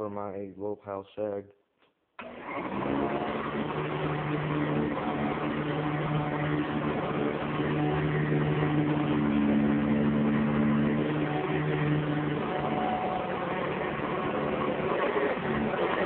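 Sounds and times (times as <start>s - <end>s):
vacuum cleaner running: 2.2s - 16.0s.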